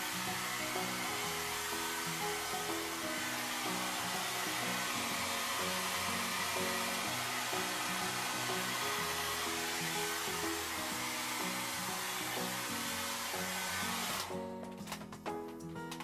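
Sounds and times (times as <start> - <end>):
hair dryer blowing: 0.0 - 14.7
background music: 0.0 - 16.0.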